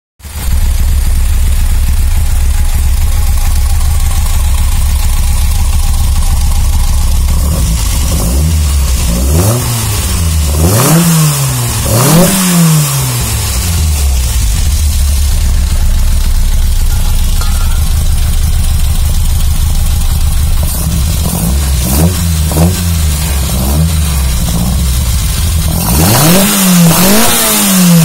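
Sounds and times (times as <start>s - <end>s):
motorcycle engine idling and revving: 0.2s - 28.0s.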